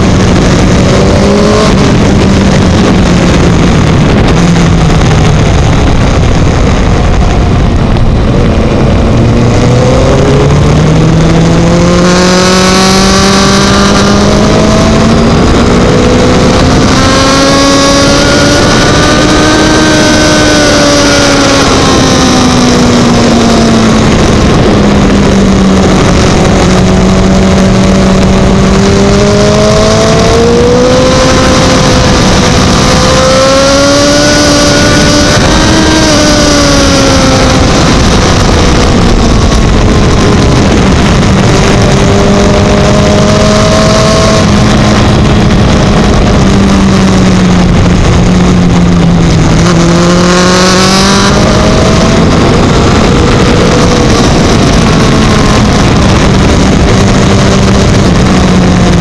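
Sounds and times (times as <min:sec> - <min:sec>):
loud wind and road noise: 0:00.0 - 0:59.0
motorcycle engine: 0:00.0 - 0:59.0.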